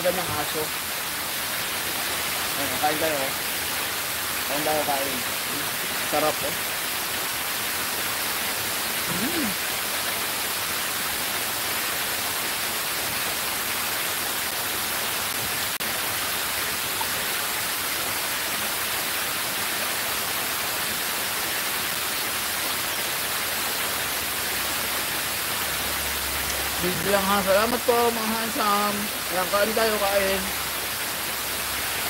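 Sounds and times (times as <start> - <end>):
fountain water rushing: 0.0 - 32.0.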